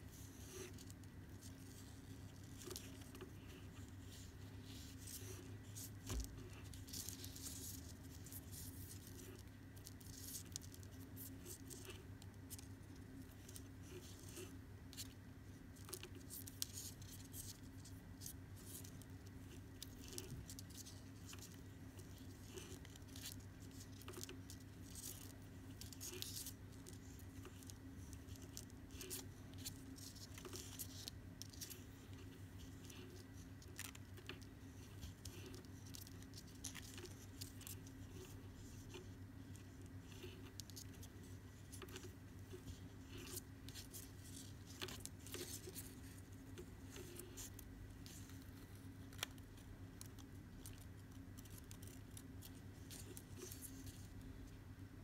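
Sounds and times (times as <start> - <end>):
cord rustling and ticking: 0.0 - 55.0.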